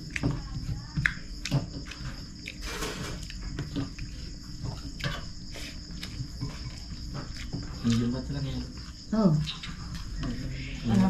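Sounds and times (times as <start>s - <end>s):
person eating rice by hand: 0.0s - 10.8s
crickets chirping: 0.0s - 11.0s.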